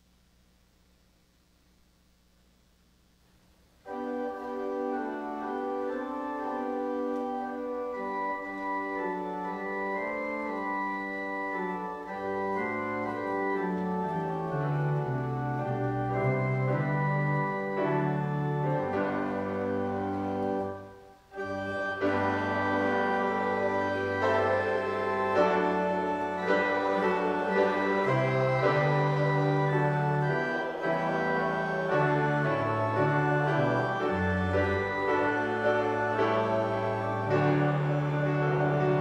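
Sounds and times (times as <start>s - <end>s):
organ playing hymn chords: 3.7s - 39.0s.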